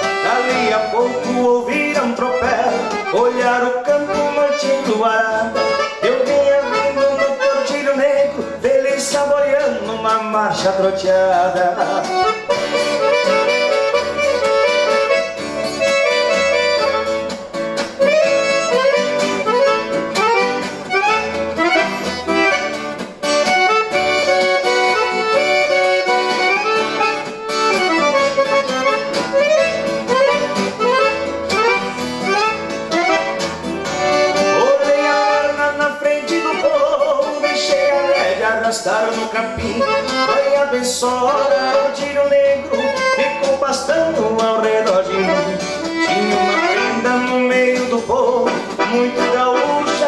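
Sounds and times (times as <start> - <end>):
accordion melody: 0.0 - 50.0
guitar accompaniment: 0.0 - 50.0.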